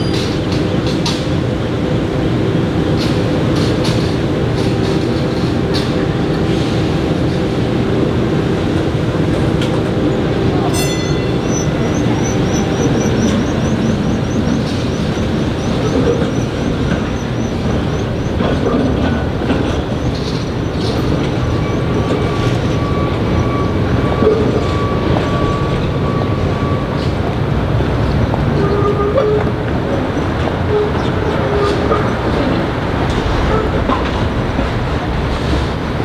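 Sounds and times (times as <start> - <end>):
streetcar wheels rumbling and clacking: 0.0 - 36.0.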